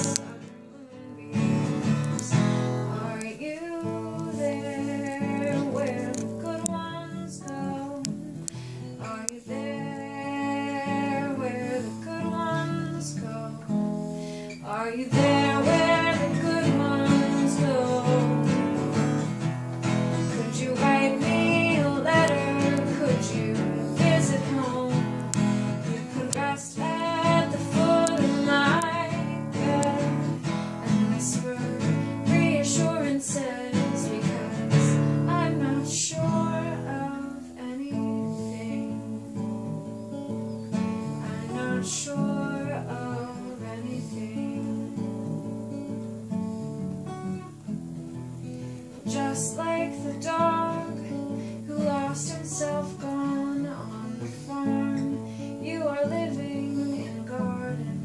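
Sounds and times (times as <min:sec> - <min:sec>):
woman singing: 0:00.0 - 0:40.1, 0:40.7 - 0:46.1, 0:48.9 - 0:58.0
acoustic guitar: 0:00.0 - 0:58.0.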